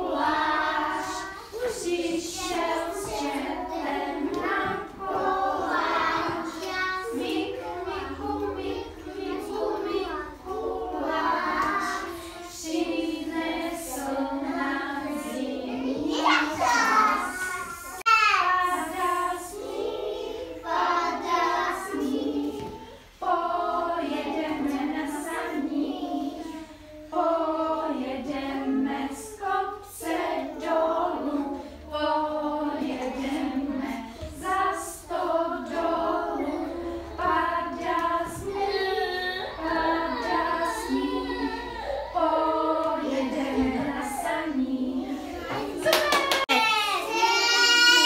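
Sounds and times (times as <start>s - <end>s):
toddlers singing: 0.0s - 48.0s.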